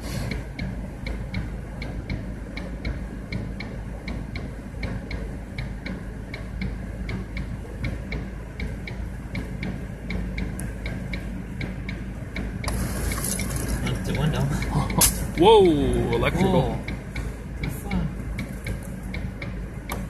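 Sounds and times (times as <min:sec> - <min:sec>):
low steady rumble: 0:00.0 - 0:20.0
car turn signal ticking: 0:00.3 - 0:12.8, 0:14.0 - 0:20.0.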